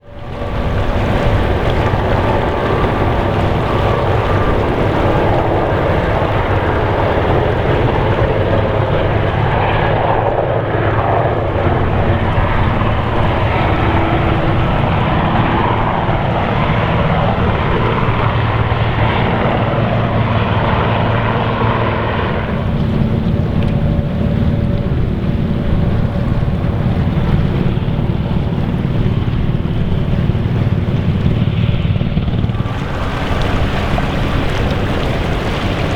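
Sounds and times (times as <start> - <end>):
boat engine droning: 0.0 - 35.9
wind noise on microphone: 0.0 - 35.9.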